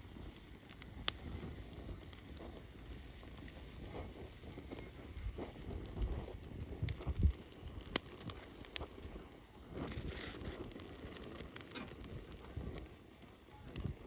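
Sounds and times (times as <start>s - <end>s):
bonfire crackling: 0.0s - 14.0s
fire popping and snapping: 0.0s - 14.0s.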